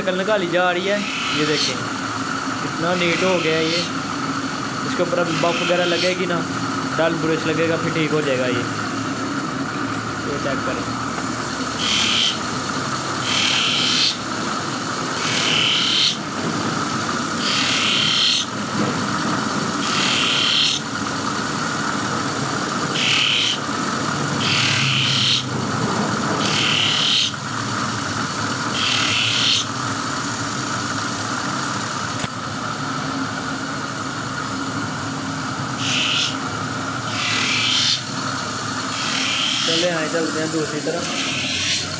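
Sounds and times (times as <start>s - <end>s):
grinding wheel humming: 0.0s - 41.9s
blade grinding on wheel: 0.2s - 32.6s, 35.7s - 41.9s.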